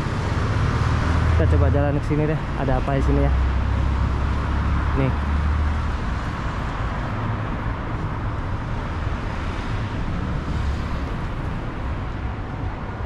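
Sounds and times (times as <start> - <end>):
cars going by: 0.0 - 13.0.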